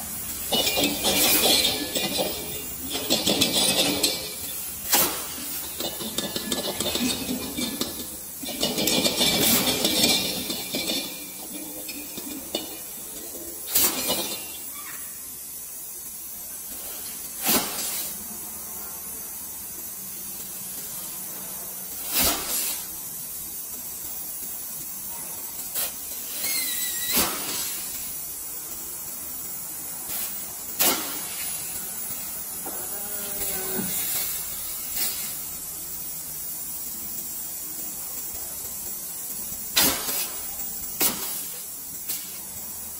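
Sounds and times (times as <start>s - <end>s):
gas hissing through tube: 0.0s - 42.9s.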